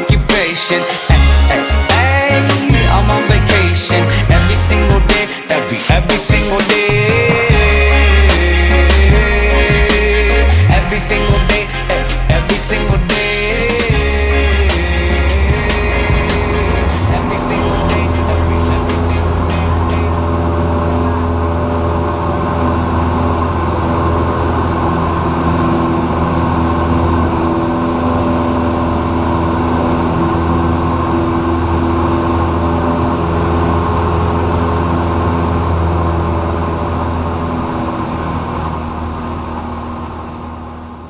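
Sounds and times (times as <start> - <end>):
airplane engine and propeller drone: 0.0 - 41.0.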